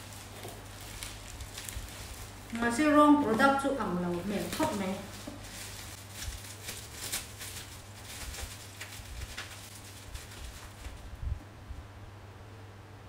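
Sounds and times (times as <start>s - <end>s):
bubble wrap crinkling: 0.0s - 11.4s.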